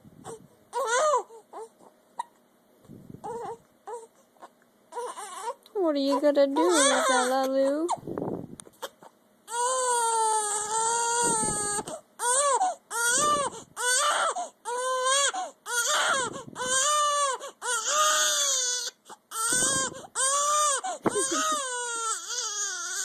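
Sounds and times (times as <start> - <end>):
baby crying: 0.2 - 2.4, 3.2 - 5.7, 6.5 - 8.0, 8.8 - 23.0.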